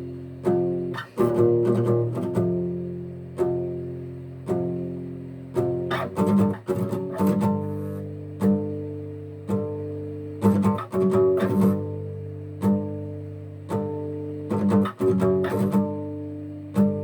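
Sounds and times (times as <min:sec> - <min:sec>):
acoustic guitar chords ringing: 0:00.0 - 0:17.0.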